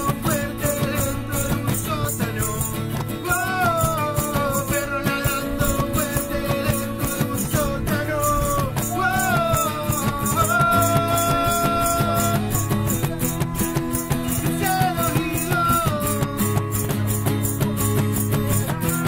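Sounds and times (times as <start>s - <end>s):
band playing guitars and cajon: 0.0s - 19.0s
cajon steady beat: 0.0s - 19.0s
sliding guitar lead line: 0.0s - 19.0s
strummed guitar chords: 0.0s - 19.0s.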